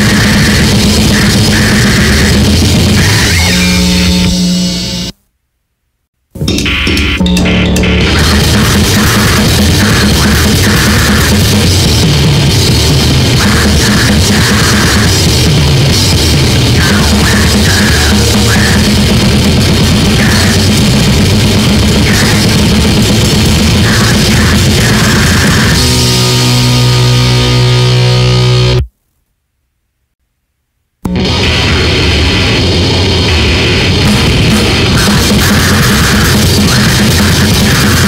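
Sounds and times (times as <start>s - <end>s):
fast drums: 0.0s - 4.6s, 6.4s - 28.9s, 31.1s - 38.0s
bass guitar: 0.0s - 5.2s, 6.3s - 28.9s, 31.0s - 38.0s
distorted guitar: 0.0s - 5.3s, 6.3s - 28.9s, 31.0s - 38.0s.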